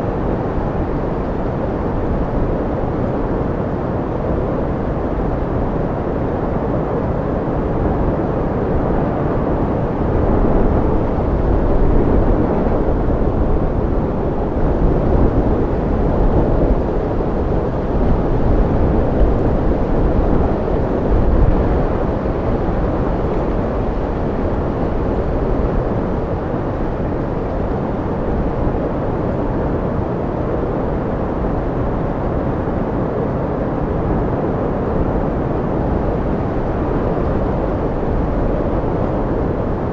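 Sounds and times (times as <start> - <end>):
strong wind rushing: 0.0 - 39.9.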